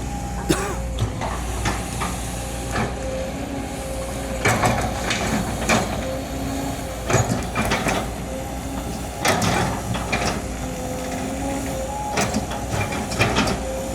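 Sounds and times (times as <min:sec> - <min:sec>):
excavator diesel engine running: 0:00.0 - 0:13.9.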